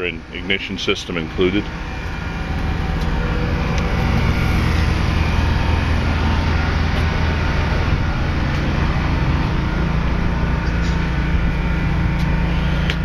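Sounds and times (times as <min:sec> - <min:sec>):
gas engine humming: 0:00.0 - 0:13.0.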